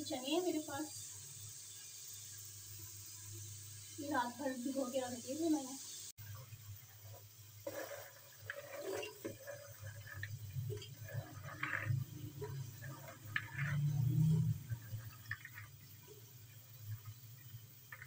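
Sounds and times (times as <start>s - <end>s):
chickpeas sizzling in oil: 0.0s - 18.0s.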